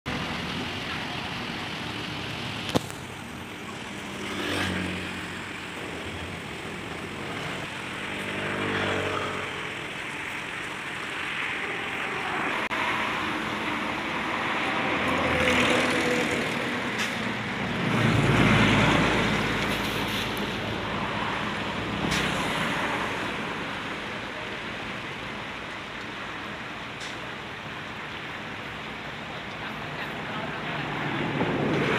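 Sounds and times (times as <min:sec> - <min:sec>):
traffic noise: 0:00.0 - 0:31.9
vehicles passing: 0:00.1 - 0:31.9.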